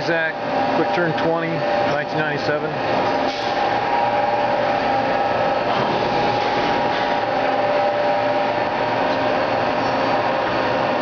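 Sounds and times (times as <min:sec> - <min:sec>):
shop machinery humming: 0:00.0 - 0:11.0
steady whining tones: 0:00.0 - 0:11.0.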